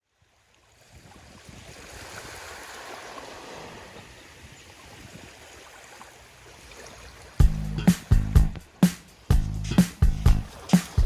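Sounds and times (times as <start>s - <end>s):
sea waves washing onto beach: 0.9s - 7.4s, 8.0s - 11.0s.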